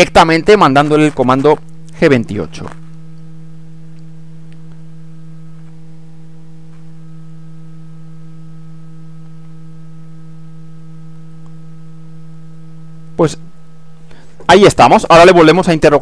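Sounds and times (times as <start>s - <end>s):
stepper motors humming: 0.0s - 16.0s.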